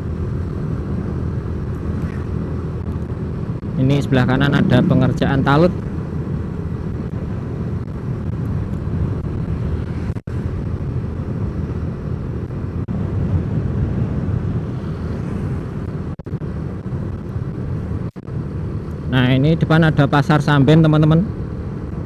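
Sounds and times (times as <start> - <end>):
tyre noise on road: 0.0 - 18.8
vehicle engine rumble: 0.0 - 22.0.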